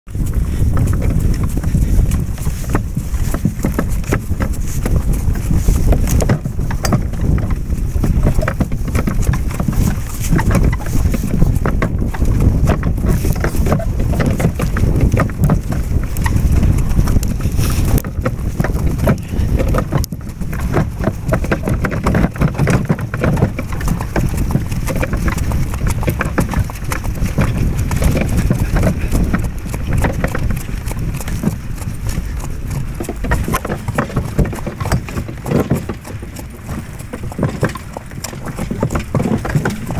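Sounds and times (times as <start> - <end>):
wind rumble on microphone: 0.0 - 39.9
horse hooves clopping on snow: 0.1 - 39.9.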